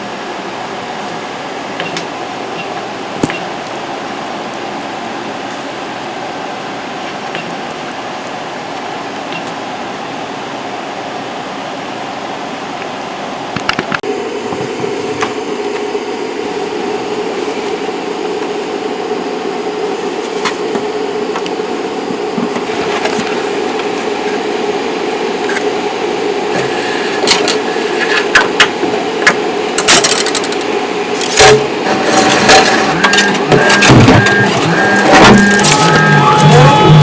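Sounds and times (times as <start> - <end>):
printer mechanical hum: 0.0 - 37.0.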